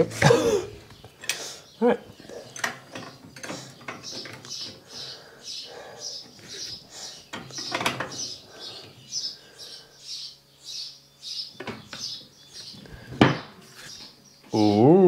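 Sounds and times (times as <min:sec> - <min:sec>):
small bird chirping: 0:00.8 - 0:15.0.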